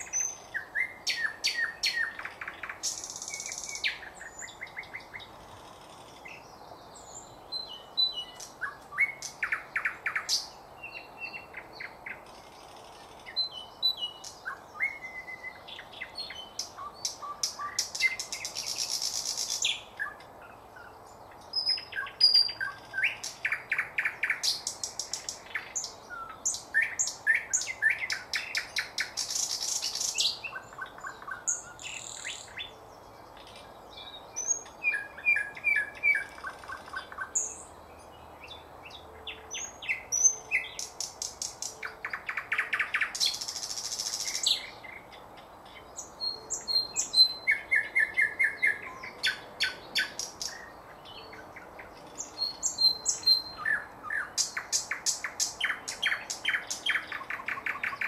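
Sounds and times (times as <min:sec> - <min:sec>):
nightingale singing: 0:00.0 - 0:58.0.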